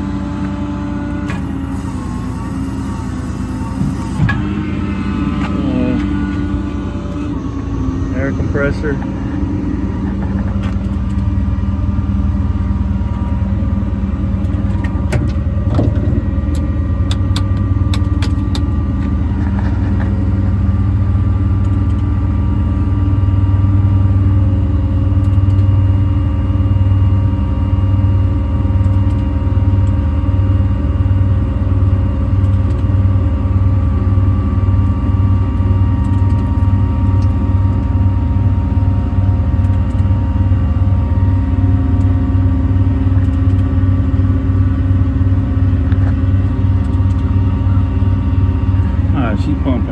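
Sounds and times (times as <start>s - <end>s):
air compressor engine drone: 0.0s - 49.9s.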